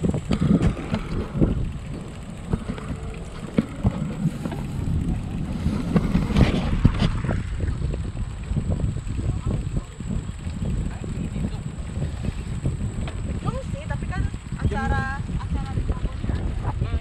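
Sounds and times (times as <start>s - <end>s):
bicycle rattling over brick paving: 0.0s - 17.0s
wind buffeting microphone: 0.0s - 17.0s.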